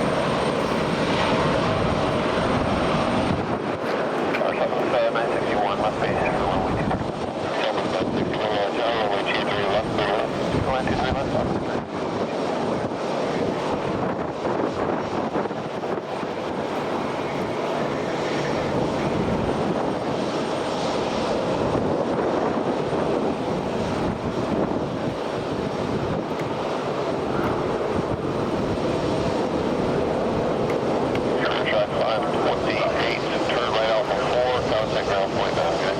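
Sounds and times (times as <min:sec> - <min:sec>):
airliner engines droning: 0:00.0 - 0:35.9.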